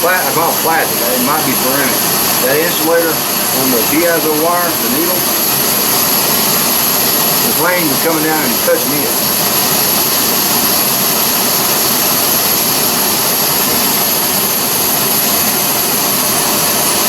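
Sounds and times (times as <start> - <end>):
gas burner hissing: 0.0 - 17.0.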